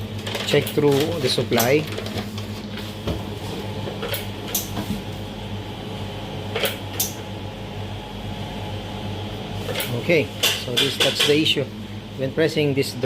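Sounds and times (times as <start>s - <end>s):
filling machine humming: 0.0s - 13.0s.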